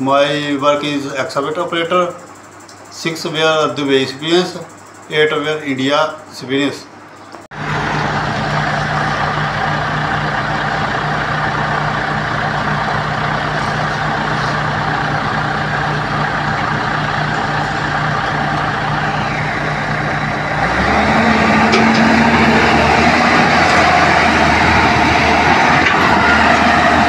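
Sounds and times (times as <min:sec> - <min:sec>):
excavator diesel engine idling: 0:00.0 - 0:05.9, 0:07.5 - 0:27.0.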